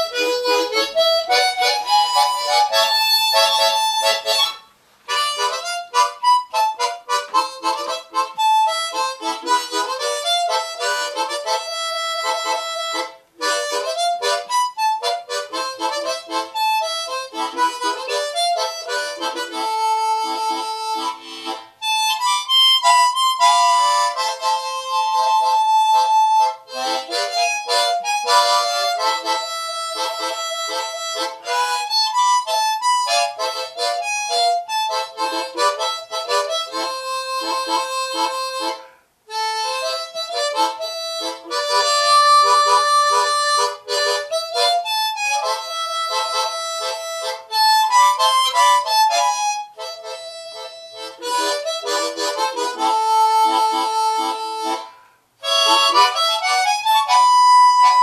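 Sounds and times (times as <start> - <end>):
solo harmonica melody: 0.0 - 58.0.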